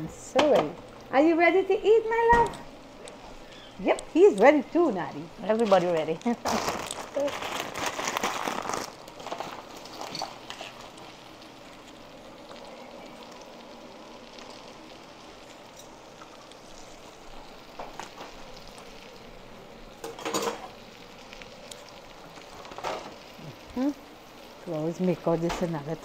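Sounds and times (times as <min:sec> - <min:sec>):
deep-frying sizzle: 0:00.0 - 0:26.0.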